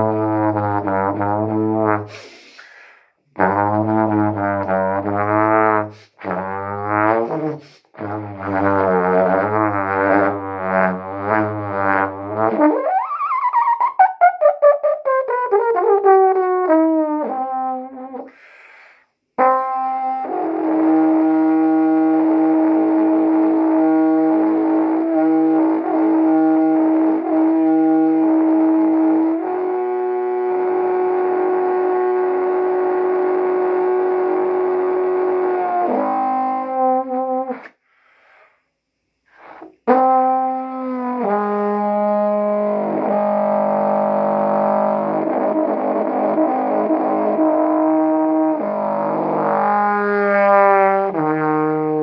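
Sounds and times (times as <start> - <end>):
trombone playing slow blues: 0.0 - 18.4, 19.4 - 37.8, 39.3 - 52.0.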